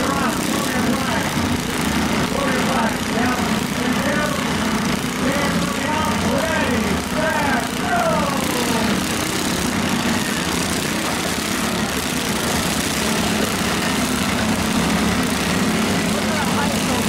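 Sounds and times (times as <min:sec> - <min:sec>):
tractor engines droning: 0:00.0 - 0:17.0.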